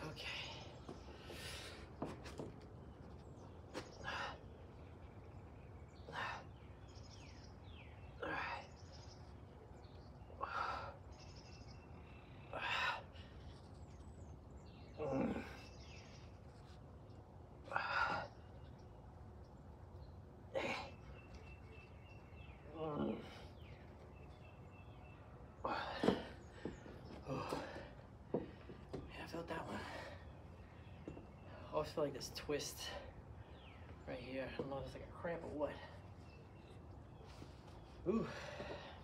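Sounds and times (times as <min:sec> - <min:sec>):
faint birds chirping: 0:00.0 - 0:39.0.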